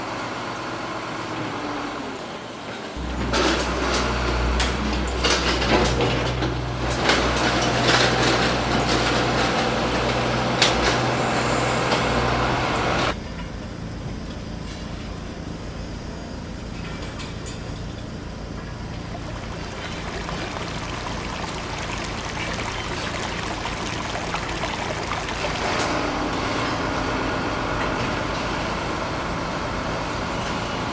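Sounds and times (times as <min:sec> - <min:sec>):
heavy engine humming: 0:00.0 - 0:30.9.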